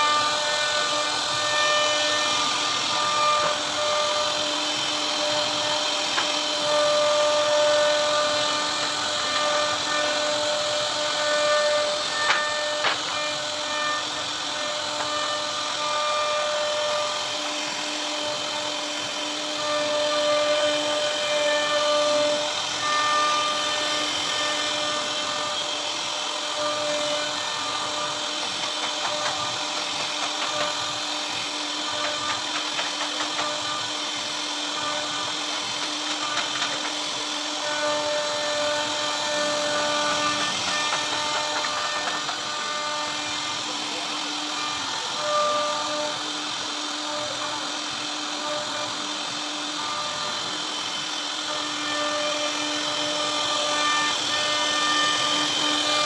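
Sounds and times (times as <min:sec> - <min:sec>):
router bit cutting wood: 0:00.0 - 0:56.0
router spindle whine: 0:00.0 - 0:56.0.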